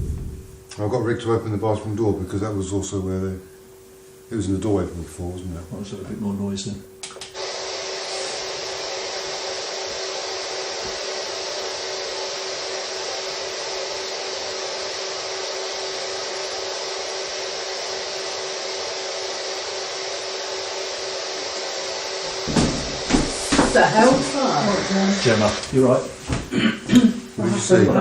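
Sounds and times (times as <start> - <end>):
fan running: 0.0 - 28.0.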